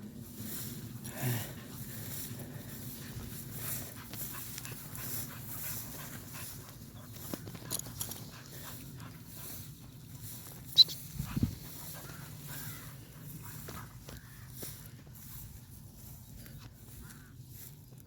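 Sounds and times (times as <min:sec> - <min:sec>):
dog breathing and moving: 0:00.6 - 0:16.8.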